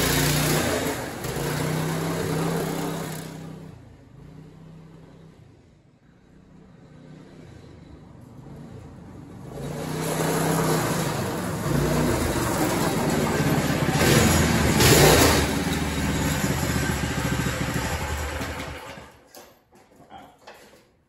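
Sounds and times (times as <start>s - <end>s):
go-kart engine running: 0.0s - 5.0s, 7.0s - 19.2s.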